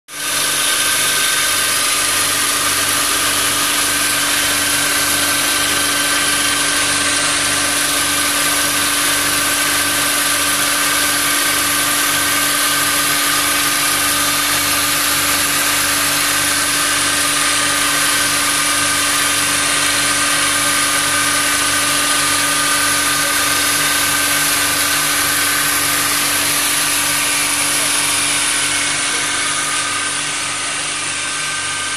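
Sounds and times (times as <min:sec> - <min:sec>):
machine hum: 0:00.1 - 0:31.9.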